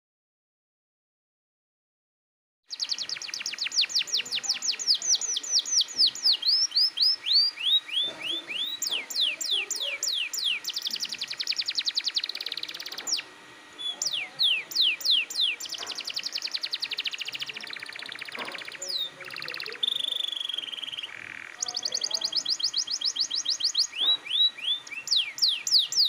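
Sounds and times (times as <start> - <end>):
canary singing: 2.7 - 26.0.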